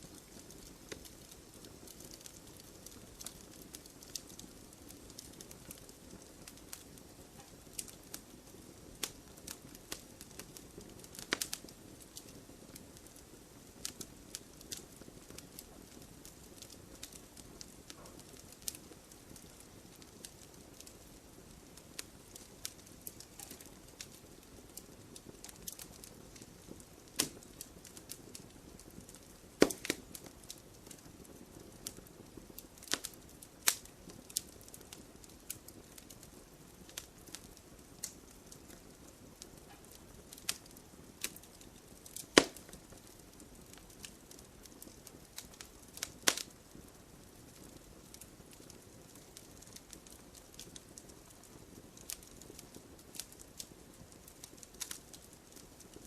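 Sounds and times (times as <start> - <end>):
fire pops: 0.0 - 56.0
low fire hiss: 0.0 - 56.0
wood fire crackling: 0.0 - 56.0.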